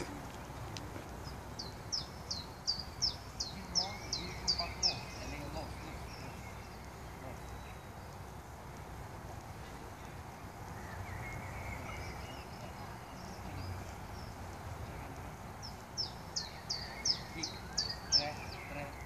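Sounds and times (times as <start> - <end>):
outdoor background noise: 0.0 - 19.0
songbird singing: 0.0 - 19.0.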